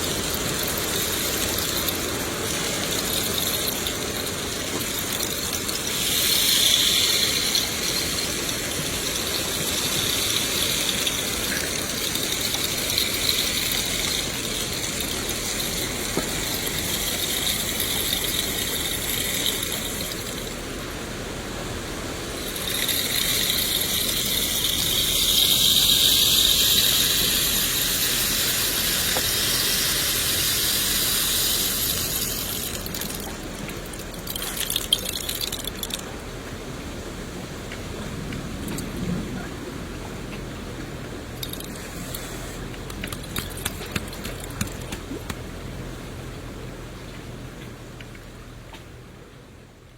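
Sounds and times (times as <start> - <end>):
rain hiss: 0.0 - 49.9.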